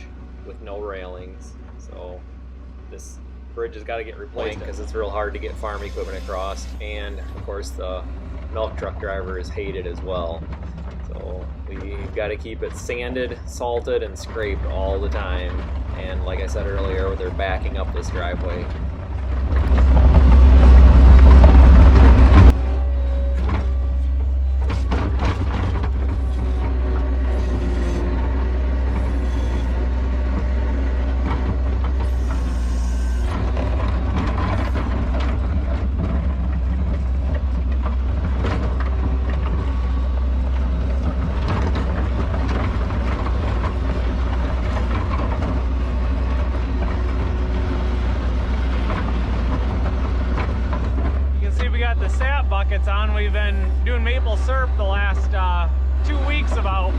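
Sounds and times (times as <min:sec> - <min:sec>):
skid steer engine running: 0:00.0 - 0:56.9.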